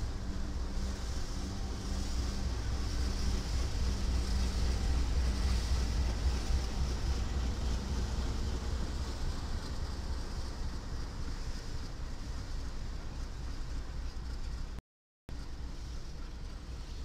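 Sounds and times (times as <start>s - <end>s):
locomotive engine rumbling: 0.0s - 14.8s.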